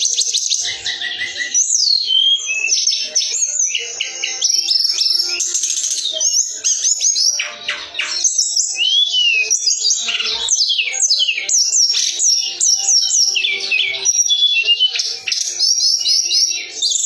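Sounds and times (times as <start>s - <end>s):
bird singing high whistled notes: 0.0s - 17.0s.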